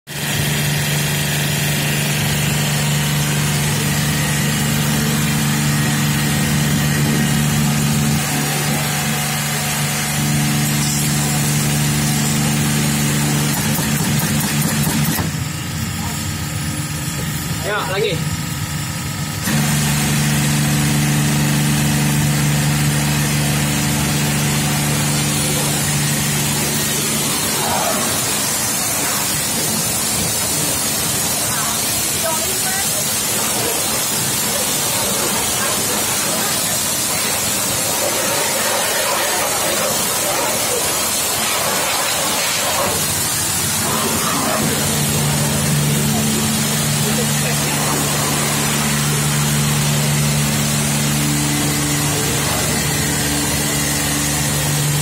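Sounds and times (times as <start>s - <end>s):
pump motor humming: 0.1s - 55.0s.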